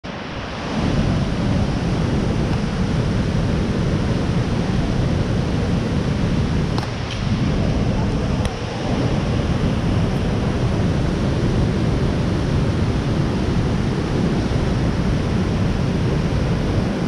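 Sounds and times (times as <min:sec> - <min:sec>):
loud rush of falling water: 0:00.1 - 0:17.0.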